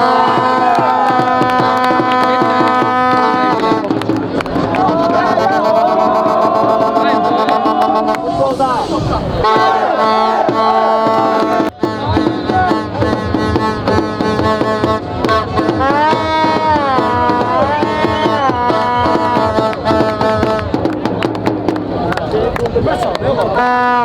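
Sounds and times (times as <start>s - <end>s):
sustained bending melody: 0.0s - 21.0s
fast percussion rhythm: 0.0s - 24.0s.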